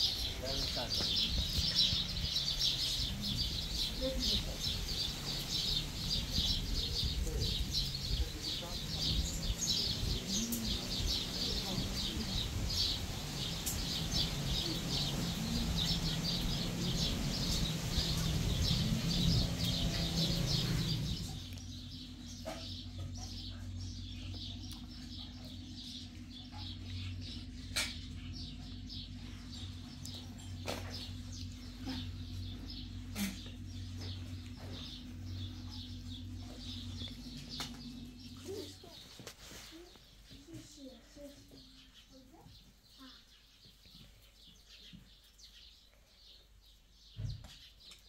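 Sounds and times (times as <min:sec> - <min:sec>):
low rumble: 0:00.0 - 0:39.8
steady low hum: 0:00.0 - 0:42.2
small birds chirping: 0:00.0 - 0:48.0.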